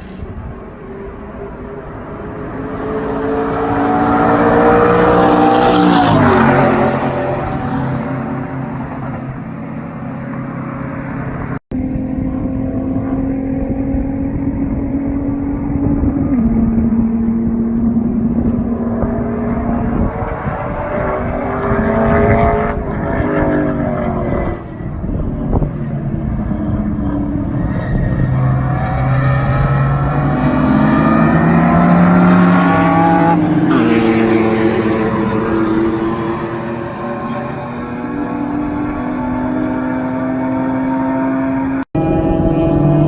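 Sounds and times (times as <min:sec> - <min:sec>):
race car engine at speed: 0:00.0 - 0:43.0.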